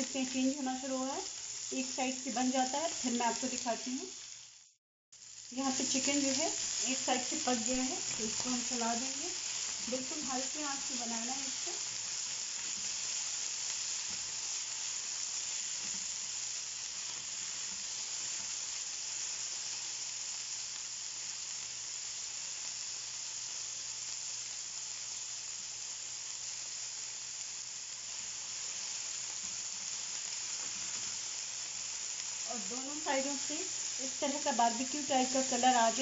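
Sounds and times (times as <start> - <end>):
chicken sizzling in oil: 0.0 - 36.0
spatula turning food in pan: 5.2 - 36.0.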